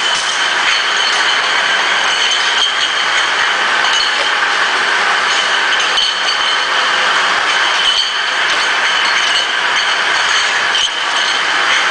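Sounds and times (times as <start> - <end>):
conveyor machinery running: 0.0 - 11.9
glass bottles clinking: 0.0 - 11.9.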